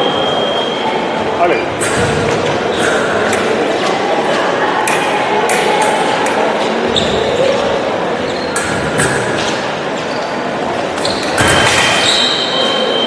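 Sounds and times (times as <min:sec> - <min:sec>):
hall background noise: 0:00.0 - 0:13.0.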